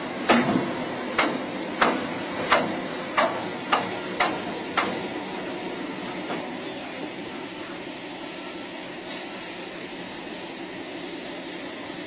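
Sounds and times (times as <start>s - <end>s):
soil compactor machine noise: 0.0s - 12.0s.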